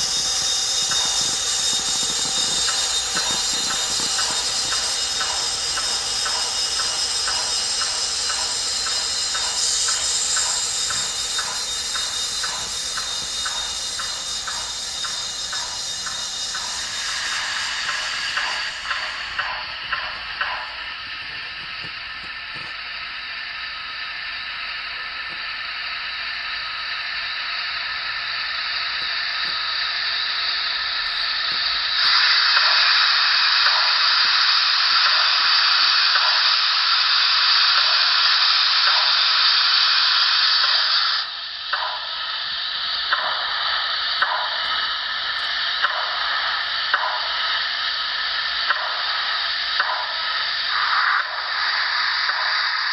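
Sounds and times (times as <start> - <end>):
loud steam hiss: 0.0 - 52.9
steam hiss with soft ticks: 0.0 - 52.9.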